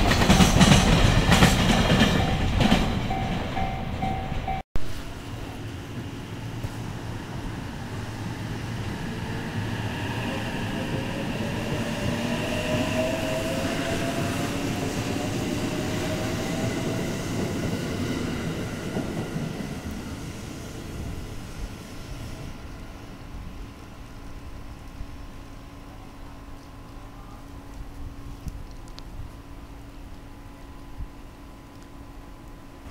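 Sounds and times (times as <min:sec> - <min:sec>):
electric train rumbling: 0:00.0 - 0:32.9.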